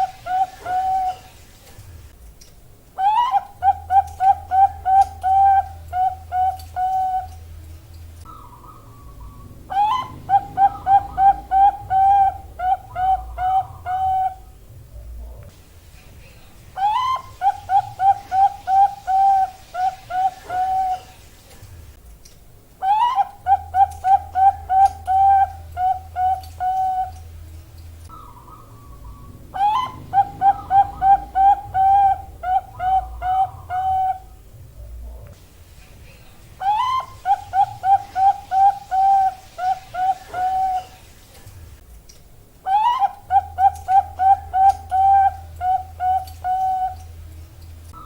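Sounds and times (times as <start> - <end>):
dove cooing: 0.0 - 1.5, 3.0 - 7.6, 8.2 - 15.4, 16.8 - 21.3, 22.8 - 27.4, 28.1 - 35.3, 36.6 - 41.2, 42.6 - 47.2.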